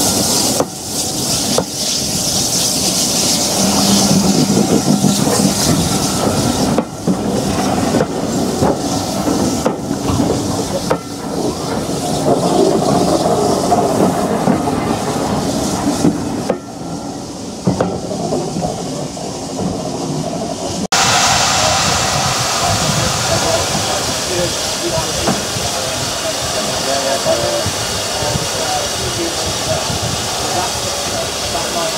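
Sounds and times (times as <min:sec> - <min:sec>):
steam locomotive hiss and exhaust: 0:00.0 - 0:31.9
train coaches rolling past: 0:00.0 - 0:31.9.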